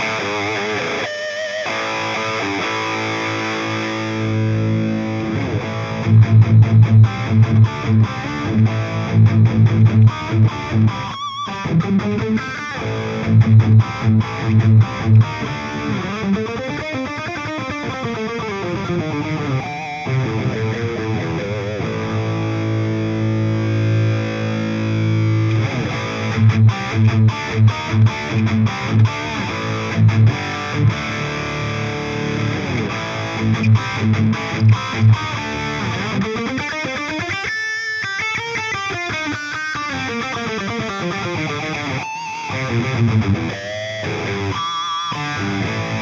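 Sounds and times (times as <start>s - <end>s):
distorted electric guitar: 0.0s - 46.0s.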